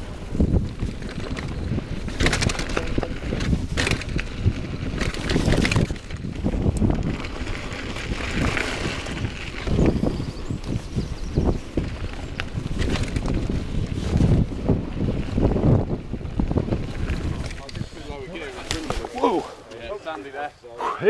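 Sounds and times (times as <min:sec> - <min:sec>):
bike rattling and knocking: 0:00.0 - 0:19.3
wind on microphone: 0:00.0 - 0:19.7.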